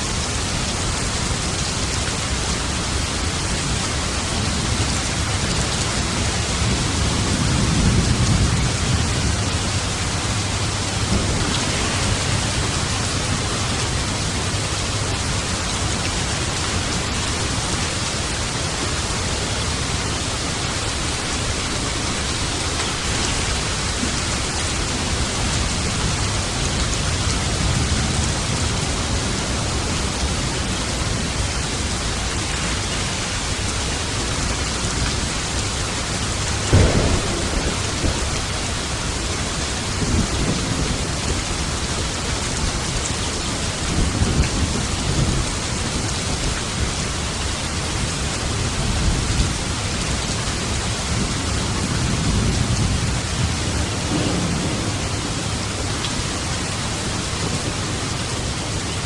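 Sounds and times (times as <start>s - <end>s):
steady rain falling: 0.0s - 59.0s
thunderclap and rumble: 0.0s - 59.0s.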